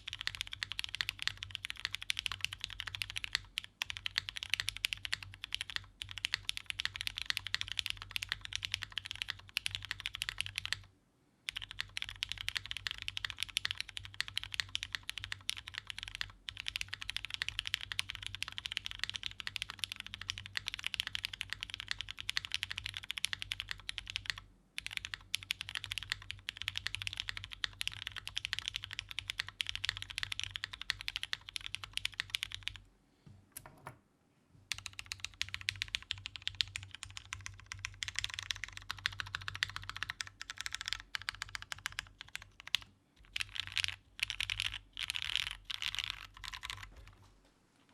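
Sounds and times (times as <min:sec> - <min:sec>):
fast typing on mechanical keyboard: 0:00.0 - 0:10.9, 0:11.5 - 0:32.8, 0:34.7 - 0:47.3.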